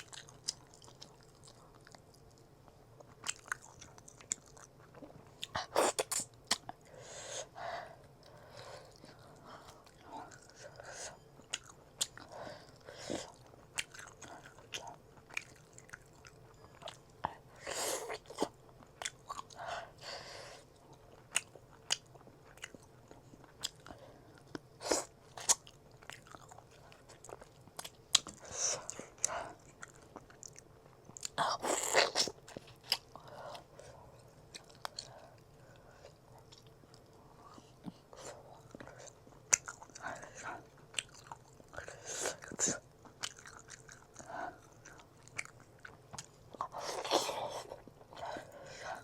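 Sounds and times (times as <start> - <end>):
person chewing food: 0.0 - 7.0, 7.9 - 49.0.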